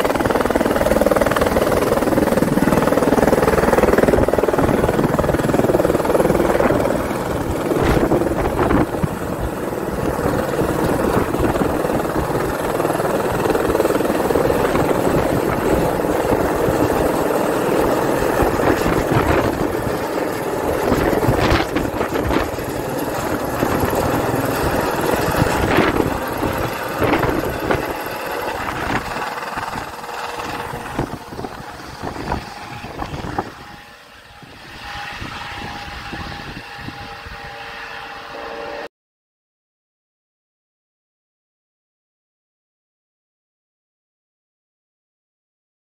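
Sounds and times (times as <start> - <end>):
helicopter flying overhead: 0.0 - 38.9.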